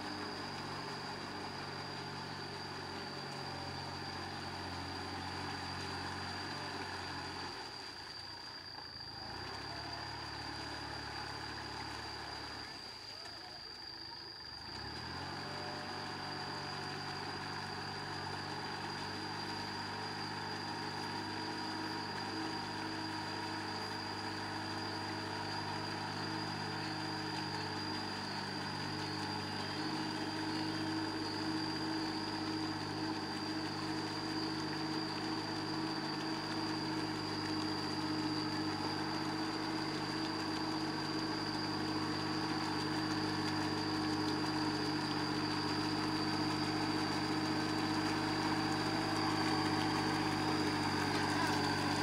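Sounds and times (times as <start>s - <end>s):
diesel tractor engine running: 0.0s - 12.9s, 13.6s - 52.0s.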